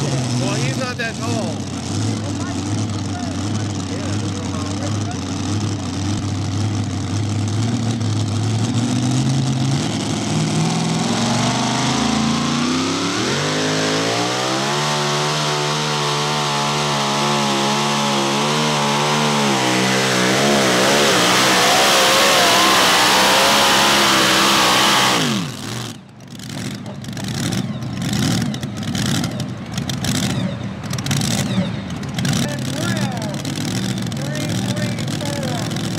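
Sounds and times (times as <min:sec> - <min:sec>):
supercharged engine revving: 0:00.0 - 0:35.9.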